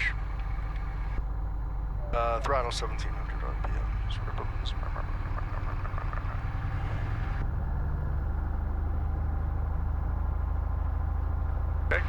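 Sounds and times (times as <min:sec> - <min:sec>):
aircraft engine running: 0:00.0 - 0:12.0.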